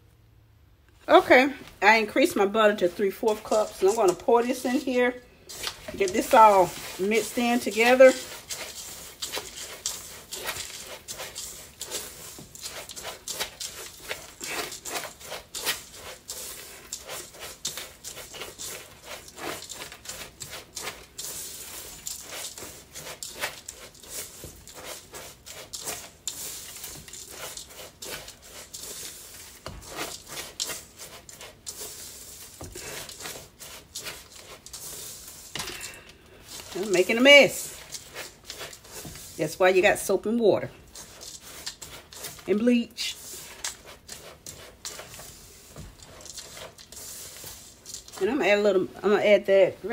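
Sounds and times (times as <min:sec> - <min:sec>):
spatula scraping metal bowl: 0:01.1 - 0:49.9.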